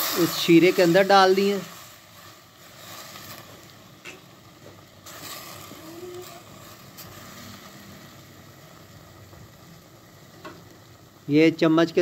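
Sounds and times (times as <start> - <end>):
syrup sizzling in a pot: 0.0 - 12.0.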